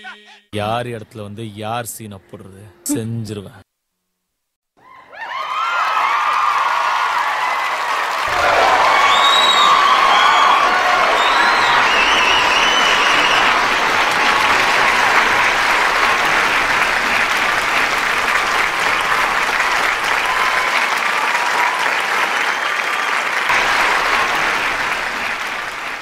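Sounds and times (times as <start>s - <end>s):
crowd shouts: 5.0s - 26.0s
audience applauding: 5.1s - 26.0s.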